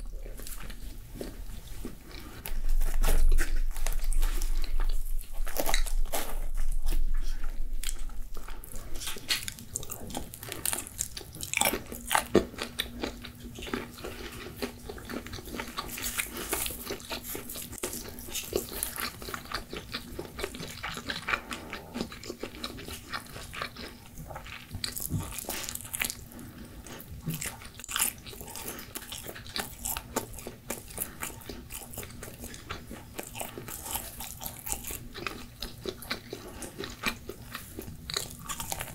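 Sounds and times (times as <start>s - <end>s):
pizza crust crunching while chewed: 0.0s - 38.9s.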